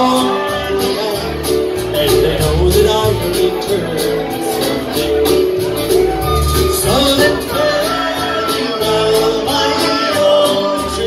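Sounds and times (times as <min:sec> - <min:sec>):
live band playing upbeat song: 0:00.0 - 0:11.0
person singing: 0:00.0 - 0:11.0.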